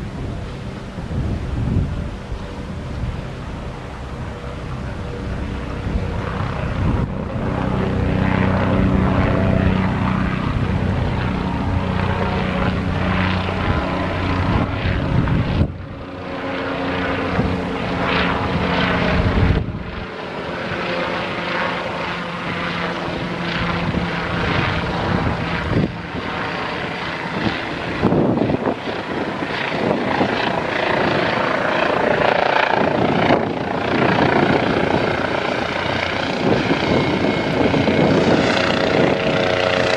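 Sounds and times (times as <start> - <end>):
helicopter engine whine: 0.0 - 39.9
helicopter rotor beating: 0.0 - 39.9.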